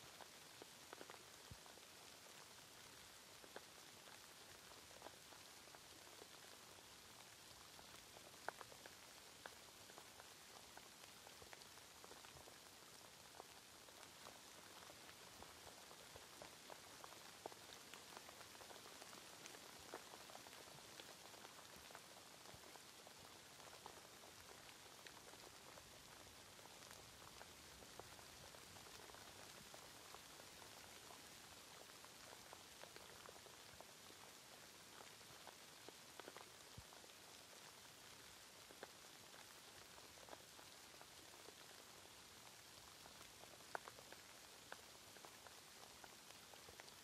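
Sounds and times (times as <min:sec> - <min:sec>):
faint steady rain: 0:00.0 - 0:47.0
raindrops ticking: 0:00.0 - 0:47.0.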